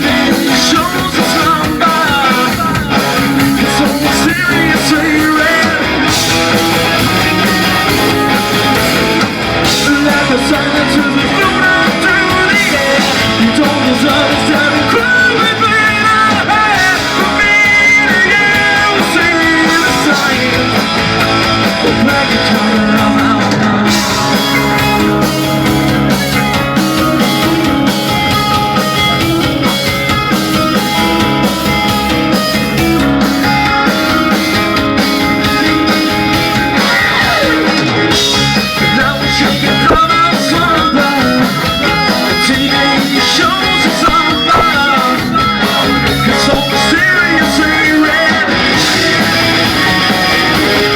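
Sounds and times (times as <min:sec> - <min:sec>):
person singing: 0:00.0 - 0:31.9, 0:33.0 - 0:50.9
rock band playing live: 0:00.0 - 0:50.9.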